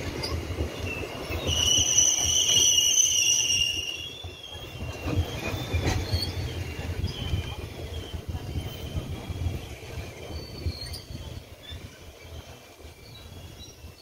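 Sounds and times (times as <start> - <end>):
train wheels rumbling on rails: 0.0 - 14.0
high wheel squeal: 0.1 - 14.0.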